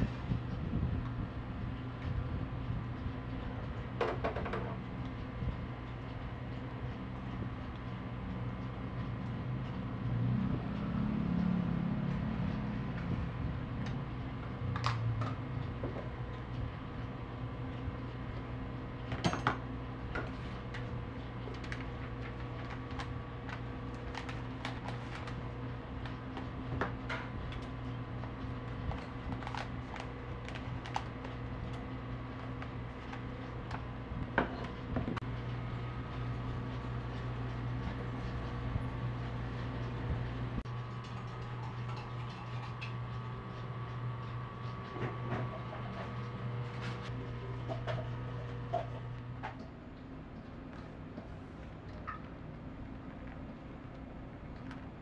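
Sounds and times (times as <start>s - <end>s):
shop equipment hum: 0.0s - 55.0s.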